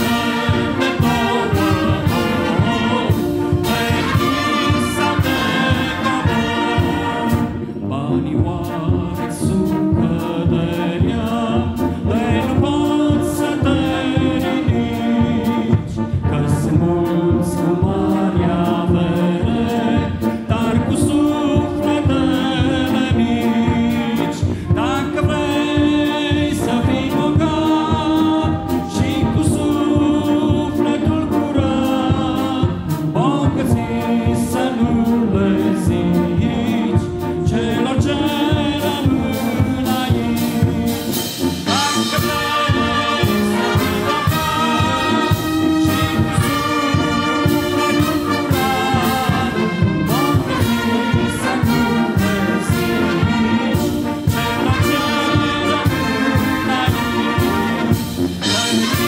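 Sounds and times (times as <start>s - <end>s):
brass band playing a hymn: 0.0s - 59.0s
chorus of voices singing: 0.0s - 59.0s.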